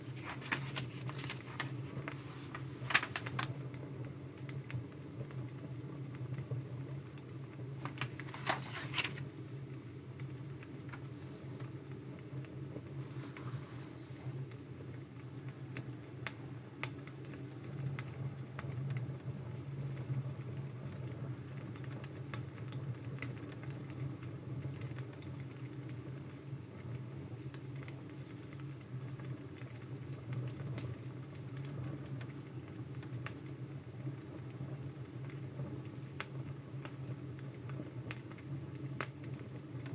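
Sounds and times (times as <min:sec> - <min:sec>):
crackling wood fire: 0:00.0 - 0:05.4, 0:06.3 - 0:19.7, 0:20.4 - 0:39.9.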